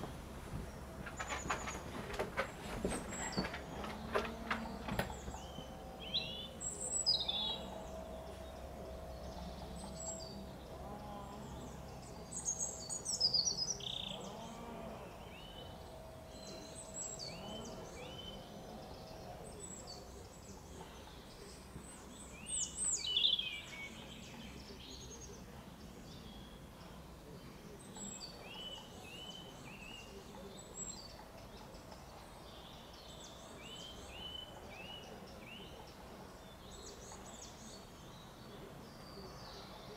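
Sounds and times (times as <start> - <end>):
small birds singing and chirping: 0.0 - 39.9.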